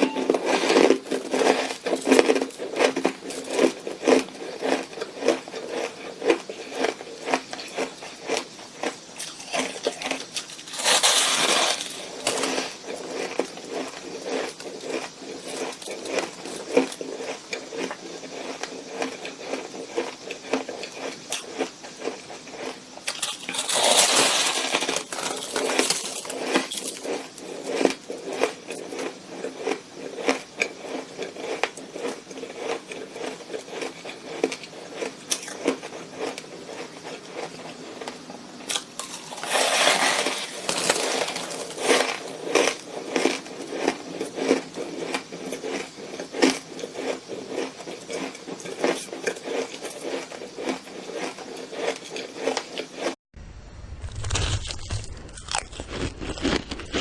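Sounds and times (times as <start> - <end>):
shaved ice being chewed: 0.0 - 53.2, 54.0 - 57.0.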